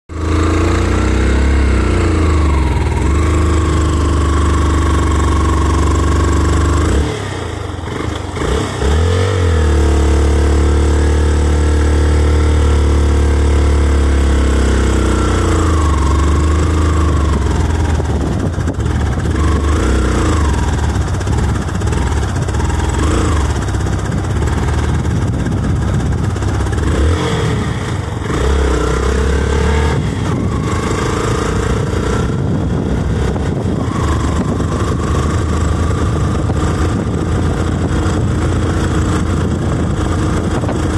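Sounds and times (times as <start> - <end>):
vehicle engine running: 0.1 - 40.9.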